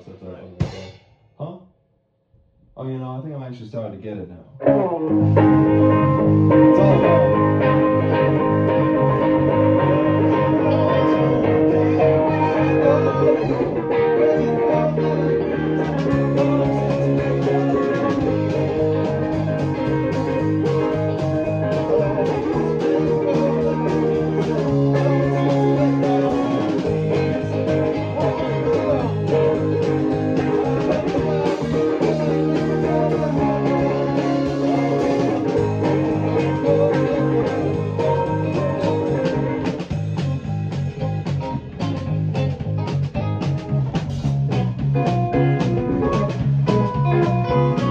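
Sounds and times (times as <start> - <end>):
electric bass plucked: 4.6 - 47.9
rock band playing: 4.6 - 47.9.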